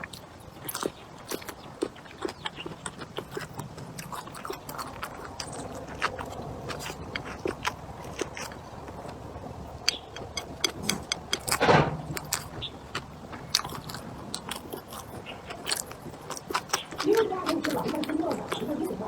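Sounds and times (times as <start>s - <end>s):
wet mouth clicks: 0.0s - 9.2s, 9.9s - 19.0s
person chewing and biting: 0.0s - 19.0s.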